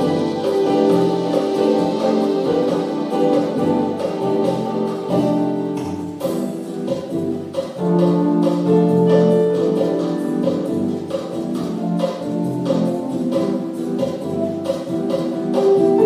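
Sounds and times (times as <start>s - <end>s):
electronic keyboard chords: 0.0s - 16.0s.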